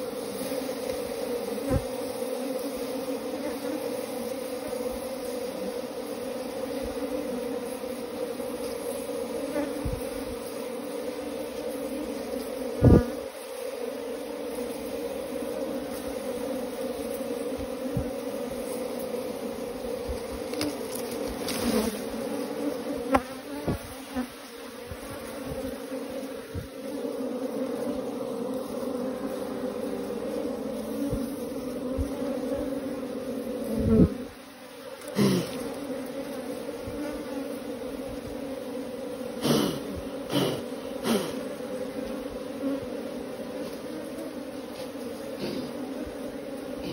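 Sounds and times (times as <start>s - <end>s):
bees buzzing: 0.0s - 46.9s.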